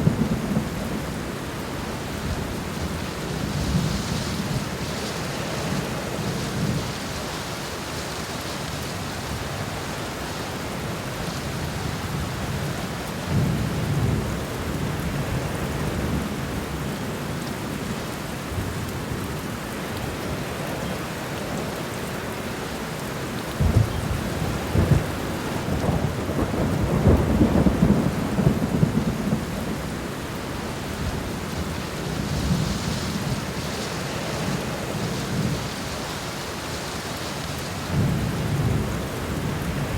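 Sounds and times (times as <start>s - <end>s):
rain on ground and leaves: 0.0s - 39.9s.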